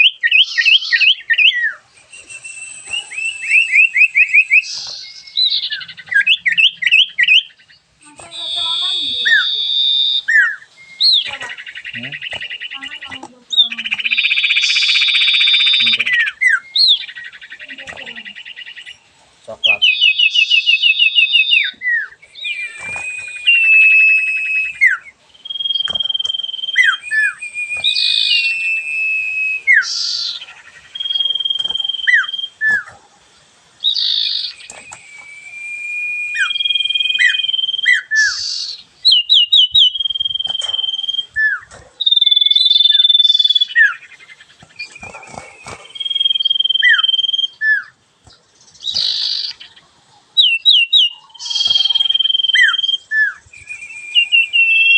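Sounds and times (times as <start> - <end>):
songbird singing whistles and trills: 0.0 - 33.0, 33.8 - 49.8, 50.4 - 54.9.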